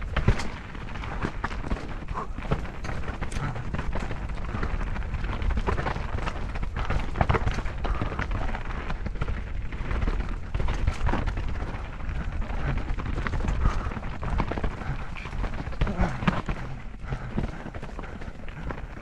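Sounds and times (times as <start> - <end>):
bike knocking and rattling: 0.0 - 19.0
tyres crunching over gravel: 0.0 - 19.0
wind rumble on microphone: 0.0 - 19.0.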